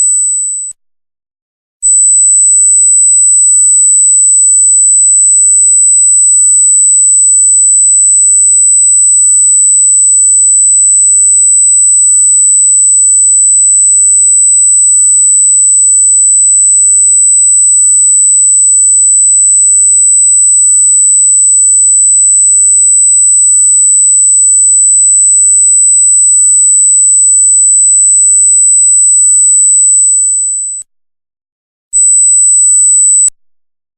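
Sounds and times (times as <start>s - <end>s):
high-pitched electronic sine tone: 0.0s - 0.8s, 1.8s - 30.9s, 32.0s - 33.4s.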